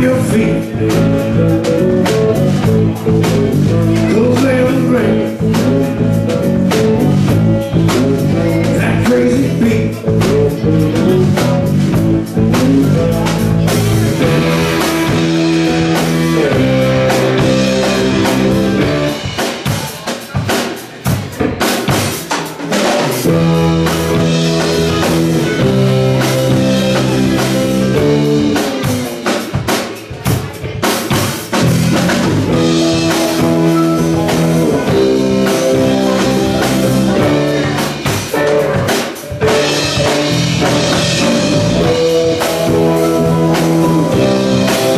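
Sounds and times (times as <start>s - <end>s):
electric guitar: 0.0s - 19.8s, 22.7s - 30.4s, 31.1s - 44.9s
drum kit with rimshots: 0.0s - 44.9s.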